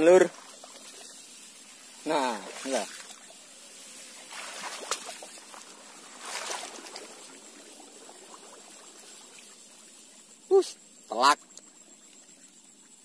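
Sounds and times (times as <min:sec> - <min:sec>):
grass and reeds rustling: 0:00.0 - 0:12.8
water trickling: 0:00.0 - 0:13.0.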